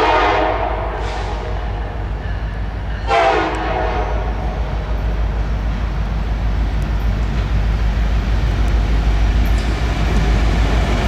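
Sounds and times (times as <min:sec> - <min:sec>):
diesel locomotive rumble: 0:00.0 - 0:11.0
freight train passing: 0:00.0 - 0:11.0.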